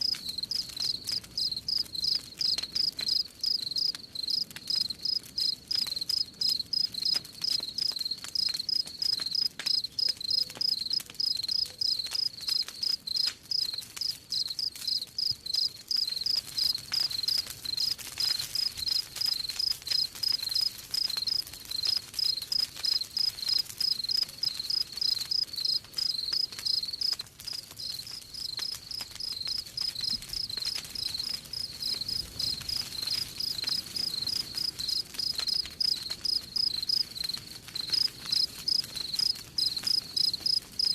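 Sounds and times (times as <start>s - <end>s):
faint campfire crackle: 0.0s - 40.9s
crickets chirping: 0.3s - 17.9s, 18.8s - 40.9s.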